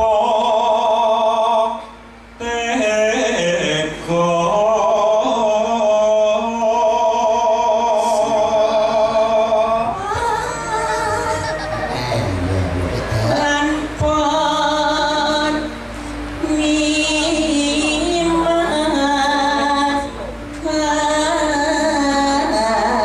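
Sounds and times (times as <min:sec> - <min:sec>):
person singing long wavering notes: 0:00.0 - 0:23.0.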